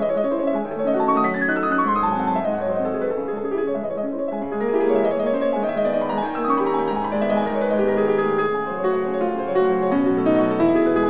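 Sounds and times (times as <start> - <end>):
fast piano music: 0.0 - 11.0.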